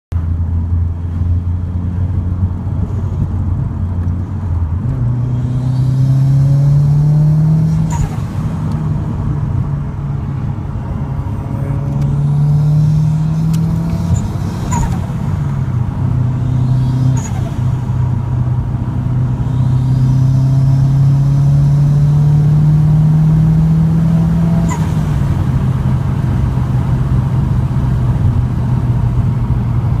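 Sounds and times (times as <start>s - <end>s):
car engine revving: 0.4s - 30.0s.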